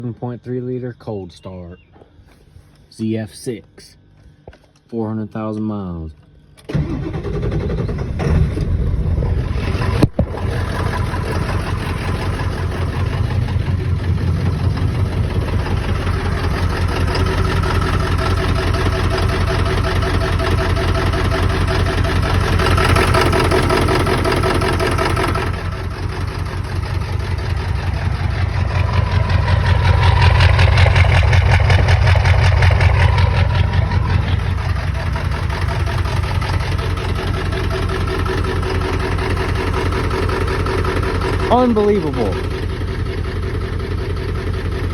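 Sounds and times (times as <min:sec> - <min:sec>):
diesel engine idling: 0:06.3 - 0:44.9.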